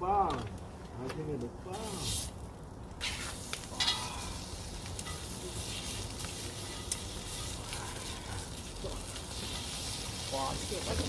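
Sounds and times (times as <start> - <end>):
pork sizzling: 1.7 - 11.0.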